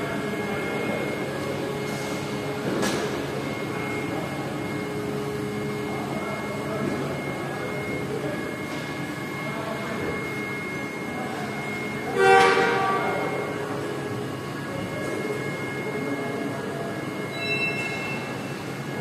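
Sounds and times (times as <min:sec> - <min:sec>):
mechanical hum with high whine: 0:00.0 - 0:19.0.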